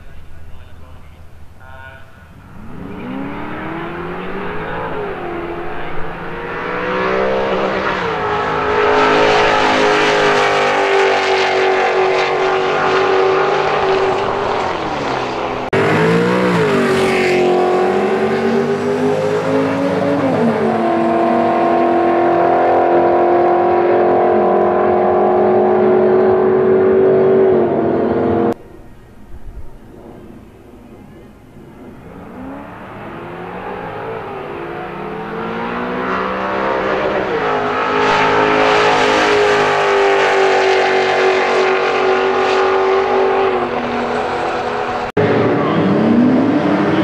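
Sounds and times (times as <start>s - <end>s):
car engine at full throttle: 2.2s - 28.6s, 29.6s - 47.0s.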